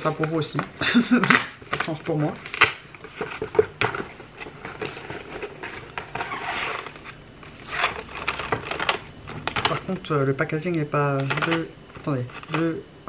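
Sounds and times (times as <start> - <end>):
packaging rustling: 0.0 - 12.8.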